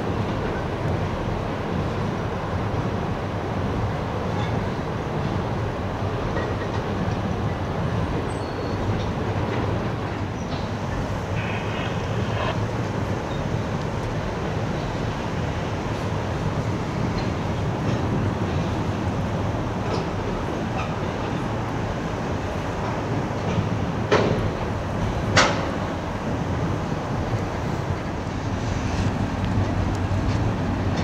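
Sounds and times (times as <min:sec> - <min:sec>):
freight train rumbling over bridge: 0:00.0 - 0:31.0.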